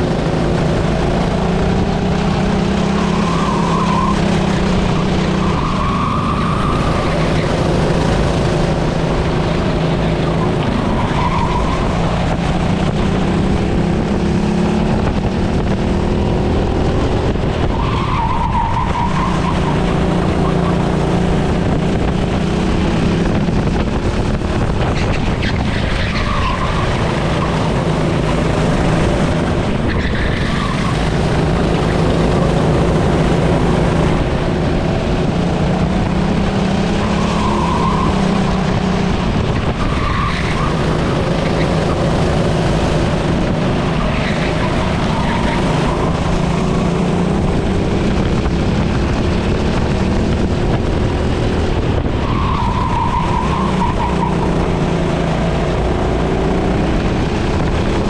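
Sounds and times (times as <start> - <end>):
racing engine revving: 0.0 - 58.0
wind and road noise: 0.0 - 58.0.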